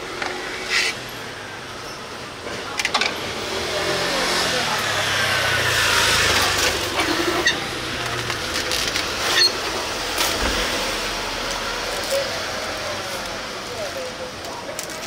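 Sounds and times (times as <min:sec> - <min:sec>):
people's voices: 0:00.0 - 0:15.0.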